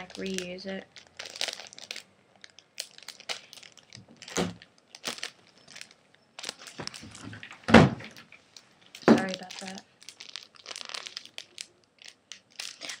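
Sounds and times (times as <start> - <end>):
package wrapping crinkling: 0.0 - 13.0.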